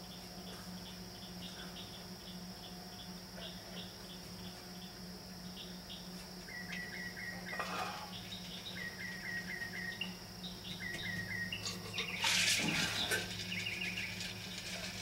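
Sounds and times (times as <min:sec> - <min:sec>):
cricket chorus: 0:00.0 - 0:15.0
mockingbird singing: 0:00.8 - 0:14.3.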